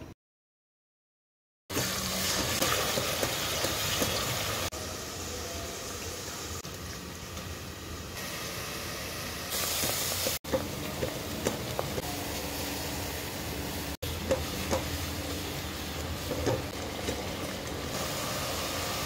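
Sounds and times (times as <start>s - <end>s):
pot boiling with bubbling hiss: 1.7s - 19.0s.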